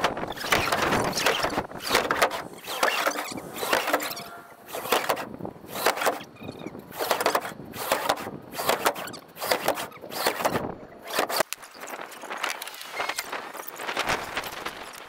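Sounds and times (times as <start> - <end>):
wooden panels scraping and sliding: 0.0 - 15.0.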